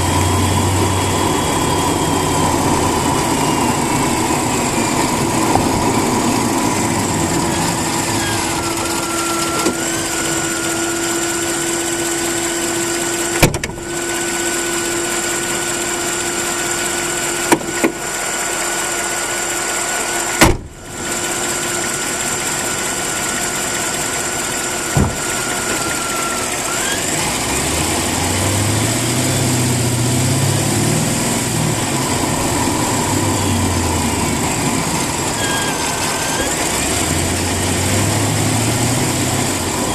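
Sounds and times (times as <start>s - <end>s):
car engine running: 0.0s - 39.9s
steady whine: 0.0s - 39.9s.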